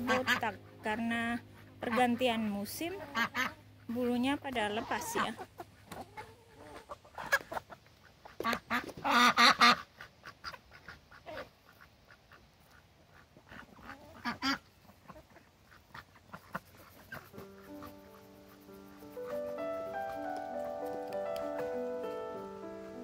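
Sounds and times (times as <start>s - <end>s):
ducks quacking: 0.0s - 20.2s.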